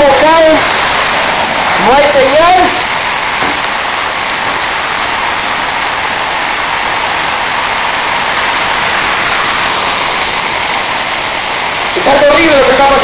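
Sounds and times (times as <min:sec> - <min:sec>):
heavy rain and hail: 0:00.0 - 0:13.0.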